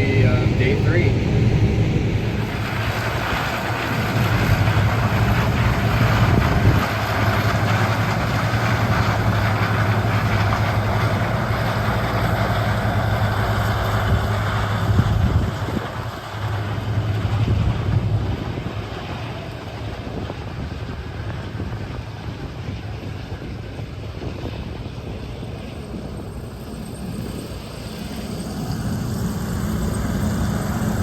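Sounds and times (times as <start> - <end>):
diesel engine hum: 0.0 - 31.0.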